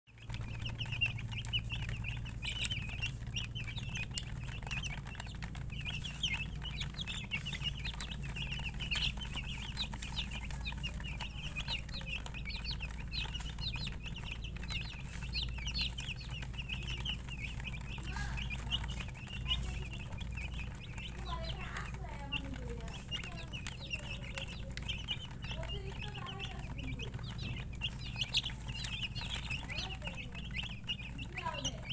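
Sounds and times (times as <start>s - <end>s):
chicks peeping: 0.1s - 31.9s
steady low hum: 0.2s - 31.9s.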